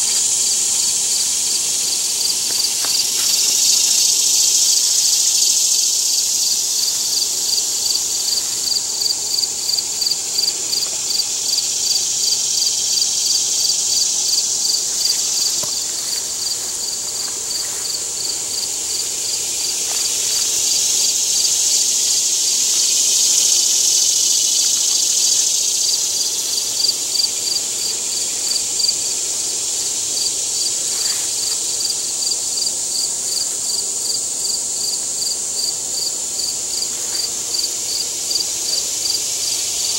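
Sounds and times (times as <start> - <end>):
high insect buzzing: 0.0 - 39.9
insect chirping: 0.0 - 39.9.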